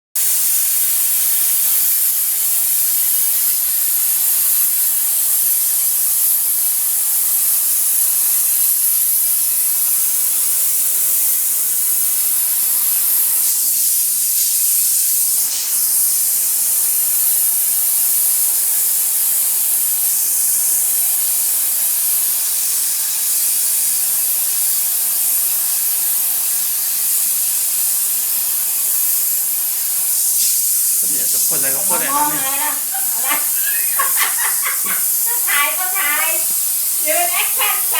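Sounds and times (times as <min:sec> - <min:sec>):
steam machine hissing: 0:00.2 - 0:37.9.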